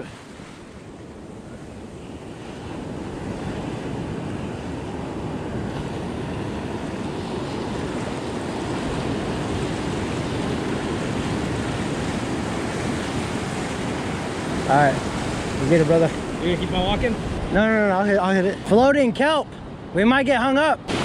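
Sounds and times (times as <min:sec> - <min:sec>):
wind on microphone: 0:00.0 - 0:20.0
ocean surf breaking: 0:00.0 - 0:21.0.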